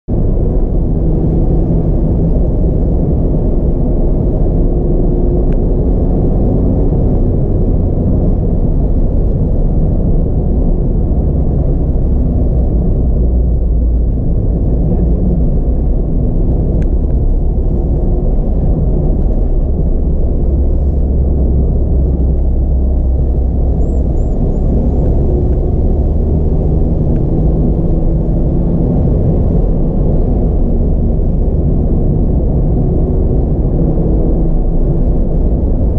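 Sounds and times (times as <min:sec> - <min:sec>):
car engine rumble: 0:00.0 - 0:35.9
tyre noise on road: 0:00.1 - 0:35.9.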